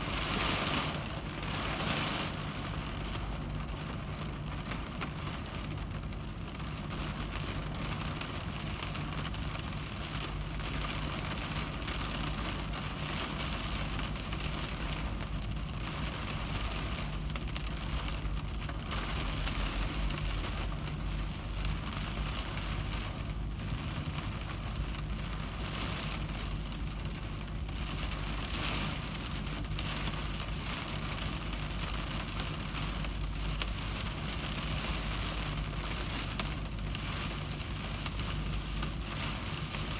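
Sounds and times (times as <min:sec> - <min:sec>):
heavy rain on a car windshield: 0:00.0 - 0:39.9
low steady hum: 0:00.0 - 0:39.9.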